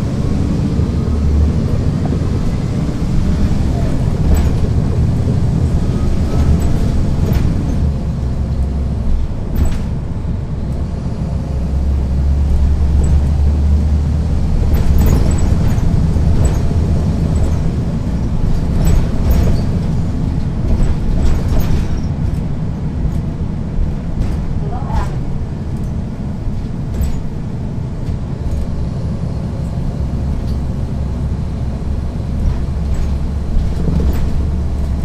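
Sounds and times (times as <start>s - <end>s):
bus diesel engine drone: 0.0s - 35.0s.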